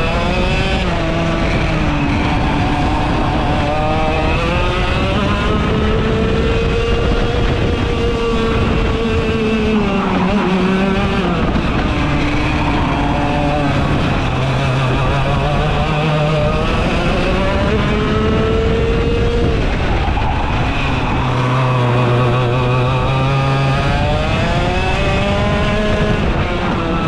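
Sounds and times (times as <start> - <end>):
kart engine revving: 0.0 - 27.0.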